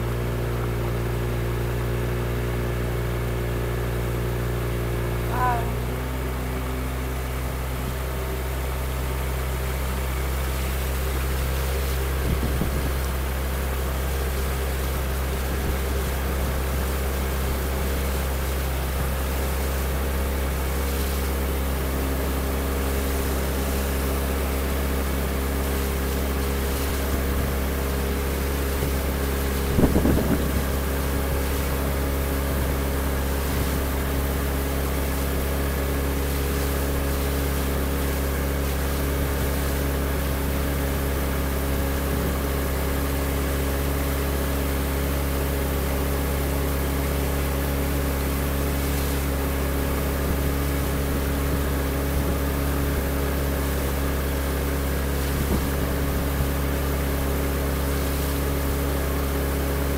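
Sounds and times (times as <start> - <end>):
motorboat engine running: 0.0 - 59.9
wind: 0.0 - 59.9
rushing water: 5.3 - 59.9.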